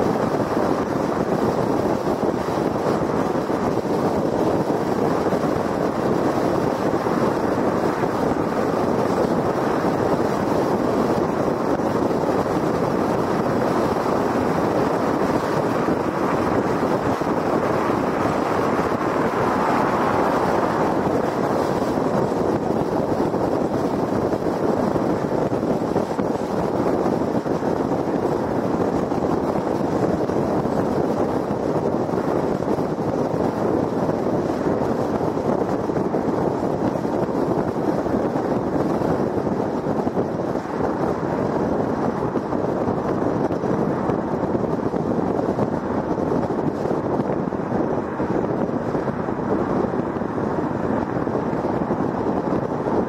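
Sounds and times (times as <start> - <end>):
tyre roar on concrete: 0.0 - 53.0
wind rush: 0.0 - 53.0.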